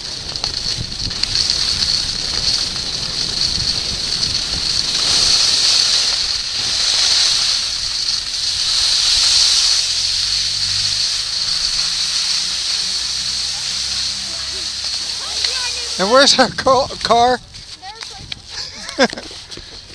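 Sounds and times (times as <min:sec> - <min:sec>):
wind on microphone: 0:00.0 - 0:12.0, 0:12.8 - 0:19.1
skis hissing over snow: 0:00.0 - 0:19.9.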